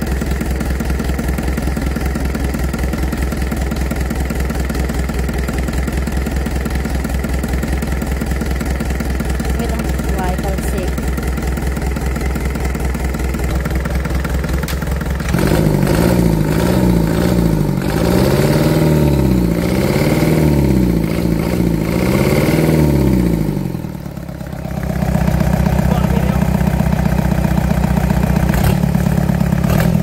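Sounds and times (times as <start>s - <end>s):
diesel engine idling and revving: 0.0s - 30.0s.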